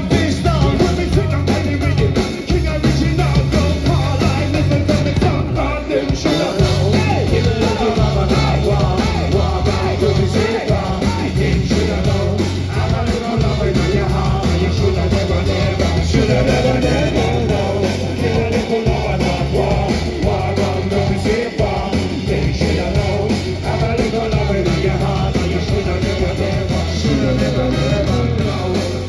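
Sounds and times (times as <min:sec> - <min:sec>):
drums: 0:00.0 - 0:29.0
heavy bass line: 0:00.0 - 0:29.0
sung and shouted vocal: 0:00.0 - 0:29.0.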